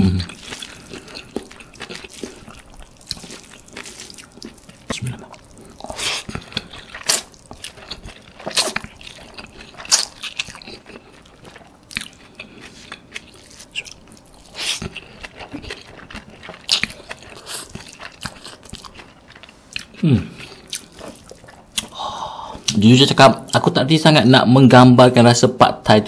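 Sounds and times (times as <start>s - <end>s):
chewing and wet mouth smacking: 0.2s - 22.0s.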